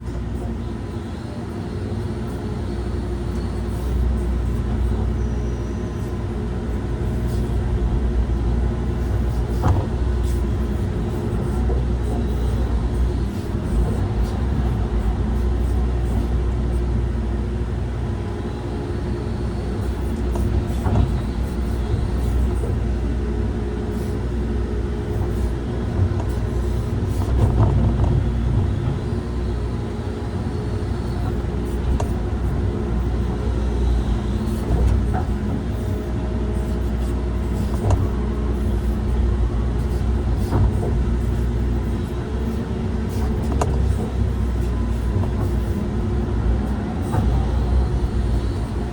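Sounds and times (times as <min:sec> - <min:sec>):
machine engine running under load: 0:00.0 - 0:48.9.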